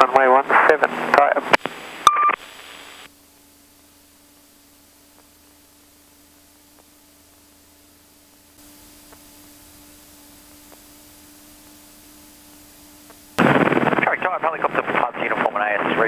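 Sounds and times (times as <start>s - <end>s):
intercom hum and hiss: 0.0s - 16.0s.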